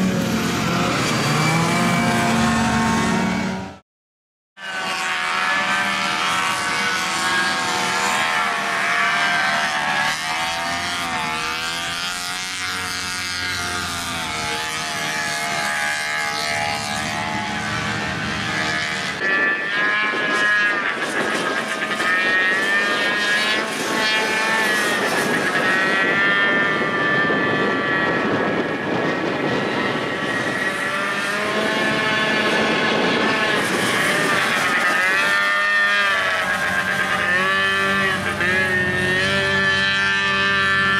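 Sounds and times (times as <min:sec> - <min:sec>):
small engines revving: 0:00.0 - 0:03.8, 0:04.6 - 0:40.9.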